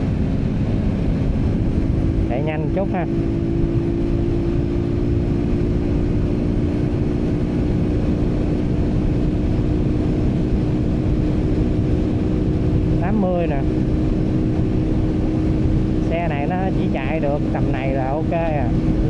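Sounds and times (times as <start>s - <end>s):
motorbike engine at high revs: 0.0s - 19.0s
wind buffeting microphone: 0.0s - 19.0s.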